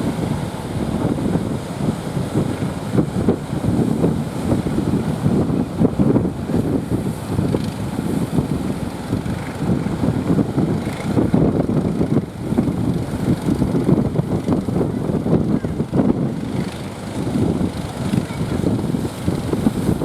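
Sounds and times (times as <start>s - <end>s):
heavy surf: 0.0s - 20.0s
wind buffeting the microphone: 0.0s - 20.0s.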